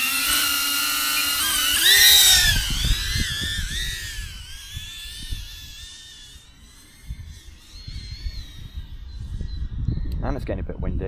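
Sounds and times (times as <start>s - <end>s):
quadcopter propellers whining: 0.0s - 10.2s
wind rumbling on microphone: 1.3s - 11.0s.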